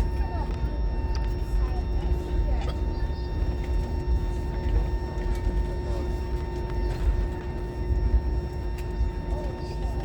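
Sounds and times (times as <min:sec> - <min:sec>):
airliner cabin rumble: 0:00.0 - 0:10.0
faint passenger chatter: 0:00.0 - 0:10.0.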